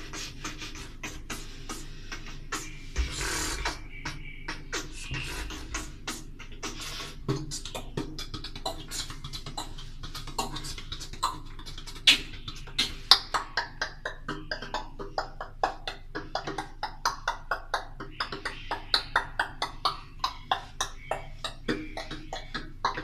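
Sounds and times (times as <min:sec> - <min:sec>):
beatboxing mouth clicks and pops: 0:00.0 - 0:23.0.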